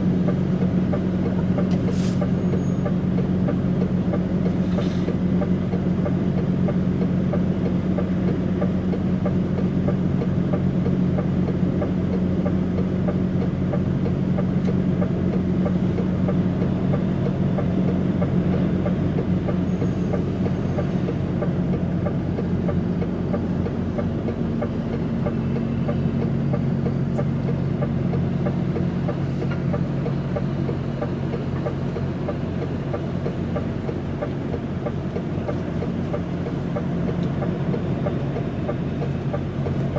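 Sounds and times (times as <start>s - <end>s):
truck engine drone inside cab: 0.0s - 39.9s.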